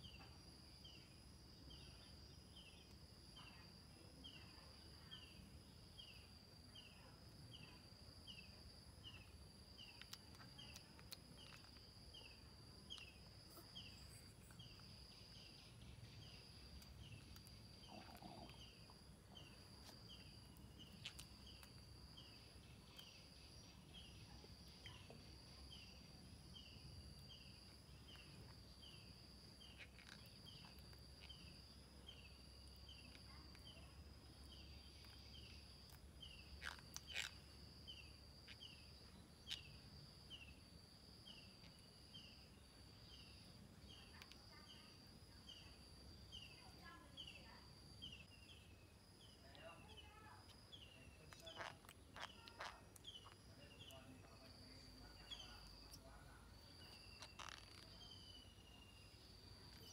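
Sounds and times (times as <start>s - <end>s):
high insect trill: 0.0s - 59.9s.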